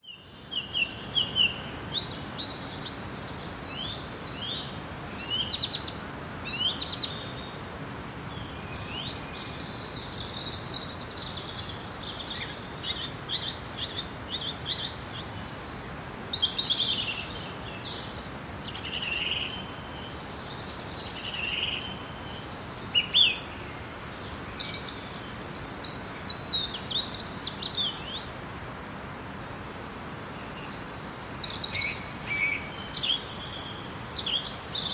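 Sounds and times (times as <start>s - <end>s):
songbirds chirping and trilling: 0.0s - 34.9s
steady background hiss: 0.0s - 34.9s.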